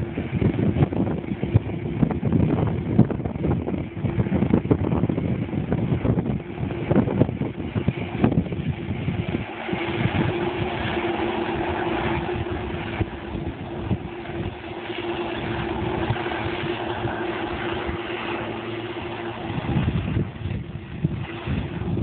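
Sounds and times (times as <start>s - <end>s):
combine harvester humming: 0.0s - 22.0s.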